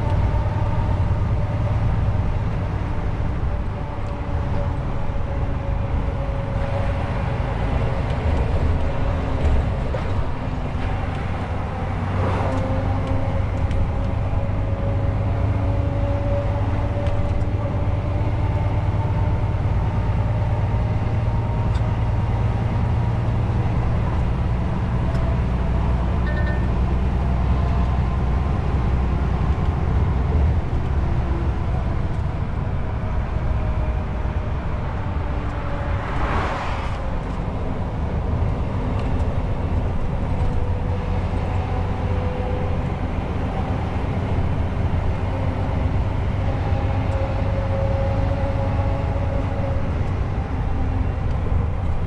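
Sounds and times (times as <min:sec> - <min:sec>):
lorry engine running: 0:00.0 - 0:52.0
road and tyre noise: 0:00.0 - 0:52.0.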